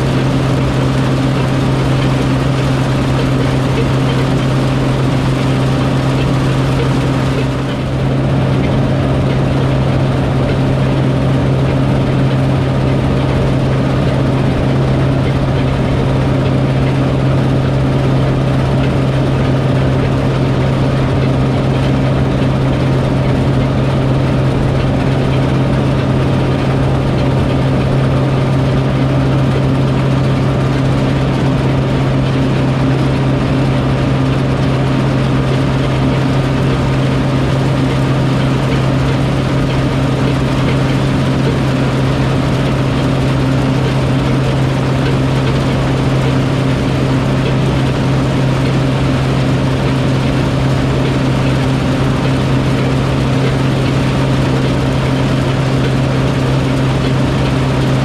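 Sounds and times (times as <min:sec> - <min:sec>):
farm machine engine running: 0:00.0 - 0:58.0.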